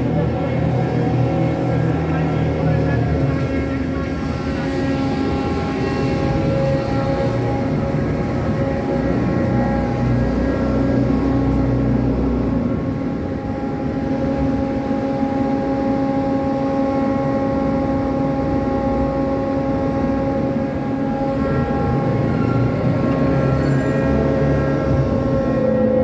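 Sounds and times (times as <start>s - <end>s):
crane machinery humming: 0.0s - 26.0s
low machinery rumble: 0.0s - 26.0s.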